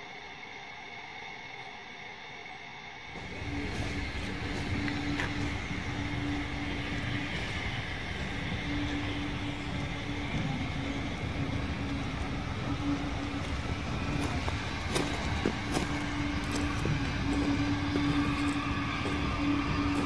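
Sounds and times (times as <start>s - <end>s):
low hum: 0.0s - 20.0s
train rumbling: 3.1s - 20.0s.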